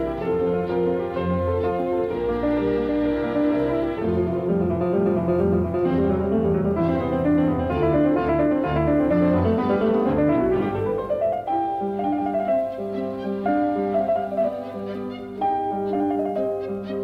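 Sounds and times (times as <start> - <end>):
classical piano piece: 0.0 - 17.0.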